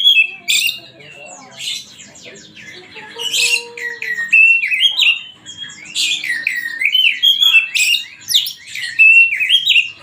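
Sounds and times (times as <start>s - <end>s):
magpie-robin singing whistled notes: 0.0s - 10.0s.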